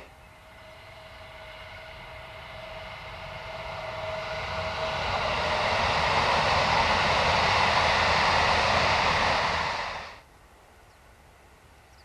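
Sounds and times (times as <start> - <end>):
train wheels rushing on rails: 0.0 - 10.3.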